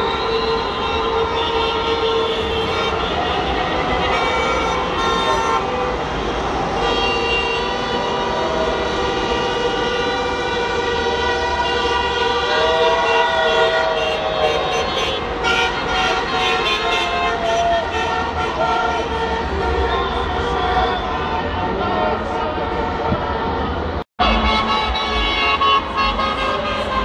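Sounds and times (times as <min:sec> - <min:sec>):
car horns honking: 0:00.0 - 0:27.0
traffic rumble: 0:00.0 - 0:27.0.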